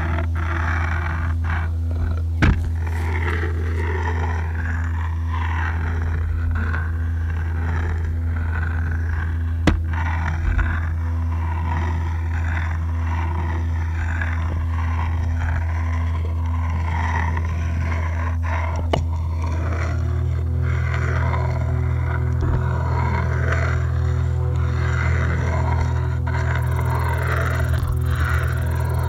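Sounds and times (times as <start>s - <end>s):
experimental electronic drone: 0.0s - 29.0s.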